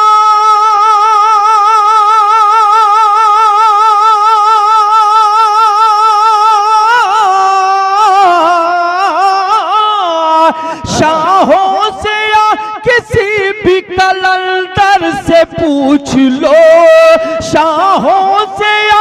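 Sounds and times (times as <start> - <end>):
man singing solo: 0.0 - 19.0.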